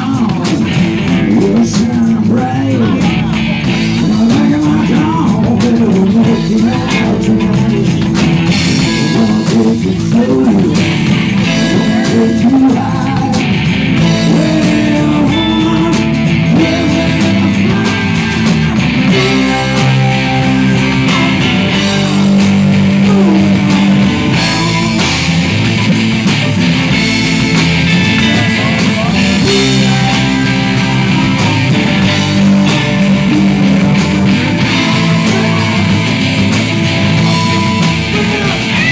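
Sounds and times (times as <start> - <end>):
bass guitar: 0.0 - 38.9
drums: 0.0 - 38.9
electric guitar: 0.0 - 38.9
person singing: 0.0 - 38.9.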